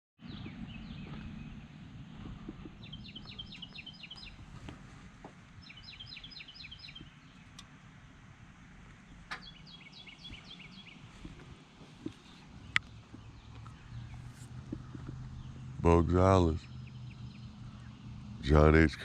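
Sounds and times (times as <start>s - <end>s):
low outdoor rumble: 0.2s - 19.0s
songbird singing: 0.2s - 19.0s.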